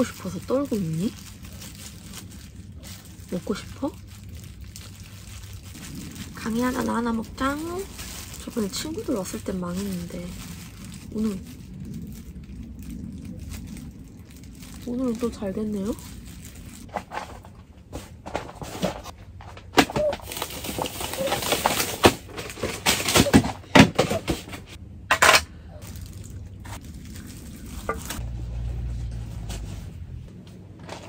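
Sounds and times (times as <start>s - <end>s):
low rumble: 0.0s - 23.7s, 24.4s - 31.0s
plastic crinkling: 0.0s - 24.5s, 25.8s - 29.6s.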